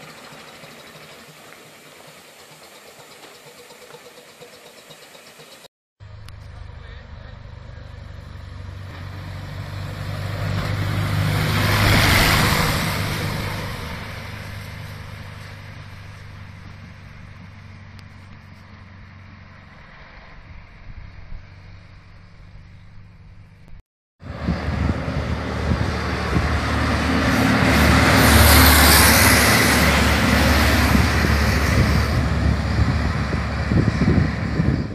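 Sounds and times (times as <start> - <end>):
steam waggon passing: 0.0 - 20.7, 24.2 - 34.9.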